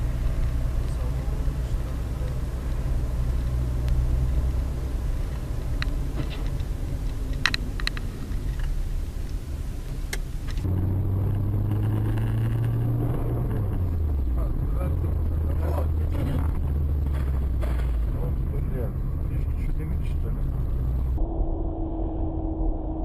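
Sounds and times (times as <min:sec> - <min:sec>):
car engine and road rumble: 0:00.0 - 0:23.0
low hum: 0:00.0 - 0:23.0.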